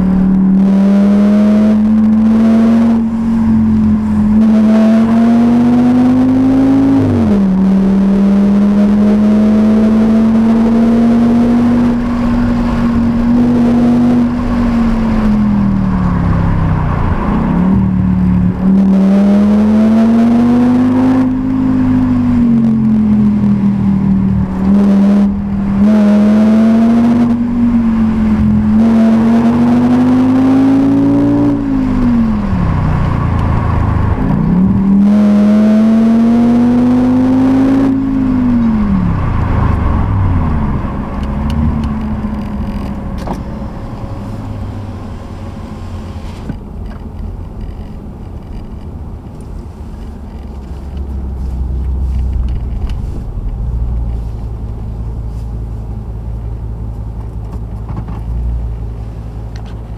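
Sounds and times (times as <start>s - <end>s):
car engine heard from inside cabin: 0.0s - 59.9s.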